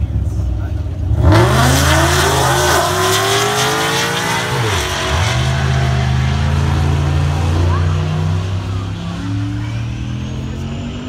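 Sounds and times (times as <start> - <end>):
drag car engines at full throttle: 0.0 - 11.0.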